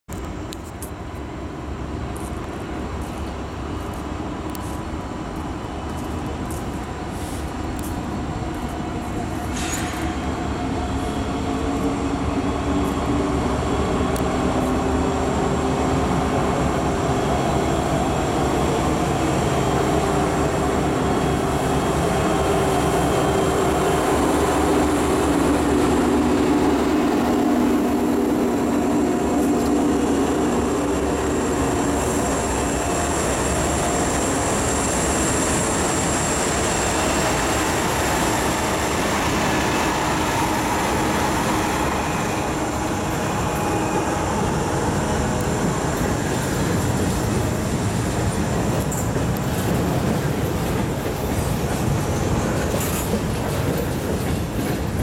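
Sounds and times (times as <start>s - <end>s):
diesel locomotives passing: 0.2s - 55.0s.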